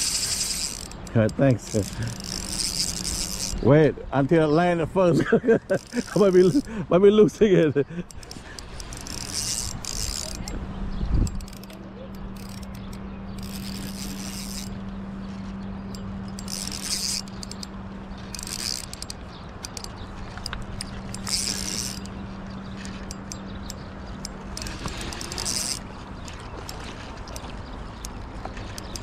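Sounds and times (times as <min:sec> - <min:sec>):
fishing reel drag buzzing: 0:00.0 - 0:04.6, 0:05.6 - 0:06.8, 0:08.0 - 0:14.9, 0:15.7 - 0:29.0
steady low hum: 0:00.0 - 0:29.0.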